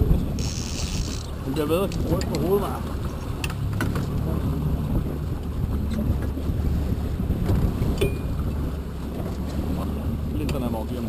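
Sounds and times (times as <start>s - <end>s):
wind noise on microphone: 0.0s - 10.4s
boat motor running: 0.0s - 11.0s.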